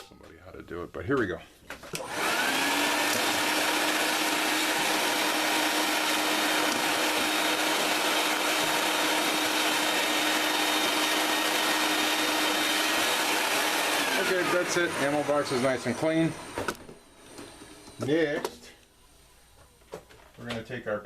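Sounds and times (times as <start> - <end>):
handheld vacuum whining: 1.9 - 18.8.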